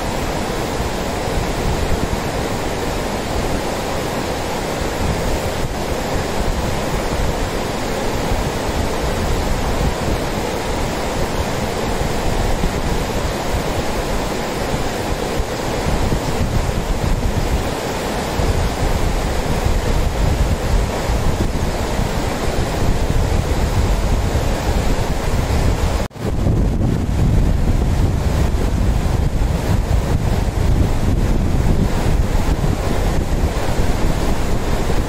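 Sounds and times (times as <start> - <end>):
river rapids roaring: 0.0 - 35.0
wind buffeting microphone: 0.0 - 35.0.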